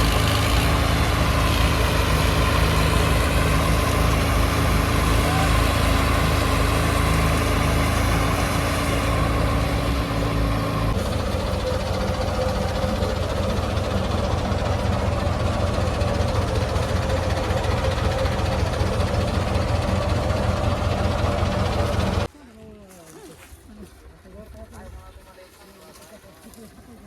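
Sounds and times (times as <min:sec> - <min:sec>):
heavy diesel engine running: 0:00.0 - 0:22.3.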